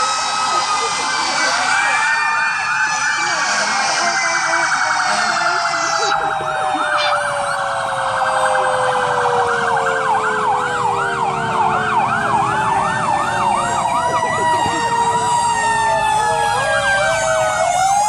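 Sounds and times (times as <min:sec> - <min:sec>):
siren wail: 0:00.0 - 0:18.0
siren yelp: 0:00.0 - 0:18.0.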